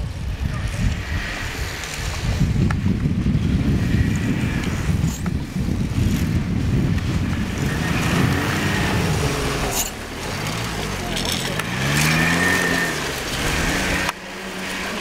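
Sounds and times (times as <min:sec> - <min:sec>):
snowmobile engine running rough: 0:00.0 - 0:15.0.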